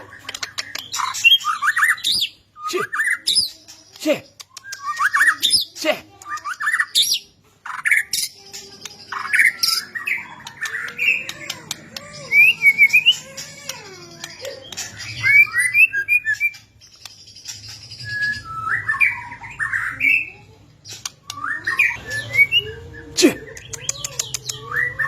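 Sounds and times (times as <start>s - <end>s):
bird singing chattering phrases: 0.0s - 25.0s.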